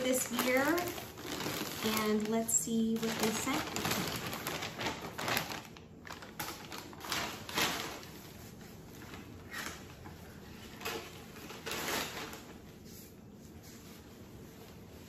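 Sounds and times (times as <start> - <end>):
foil bag and tissue paper rustling: 0.0 - 15.0.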